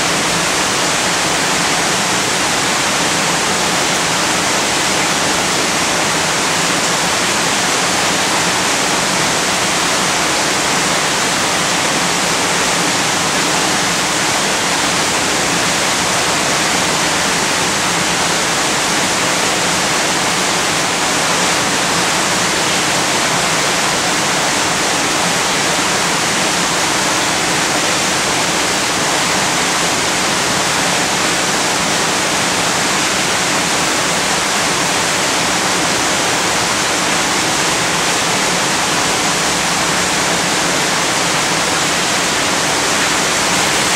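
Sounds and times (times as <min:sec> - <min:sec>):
steady rushing noise: 0:00.0 - 0:43.9.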